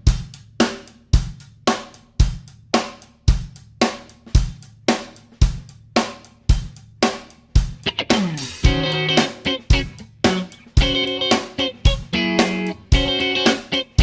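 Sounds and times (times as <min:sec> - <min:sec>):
rock drum beat: 0:00.0 - 0:14.0.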